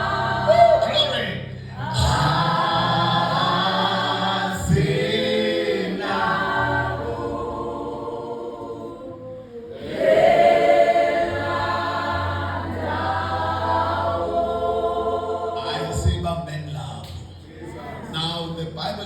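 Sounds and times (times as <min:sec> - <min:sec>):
choir singing gospel song: 0:00.0 - 0:19.0.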